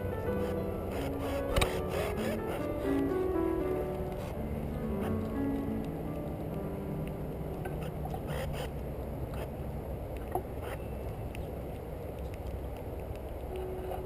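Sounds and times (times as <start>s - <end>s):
low outdoor rumble: 0.0s - 14.0s
faint clicks: 0.2s - 14.0s.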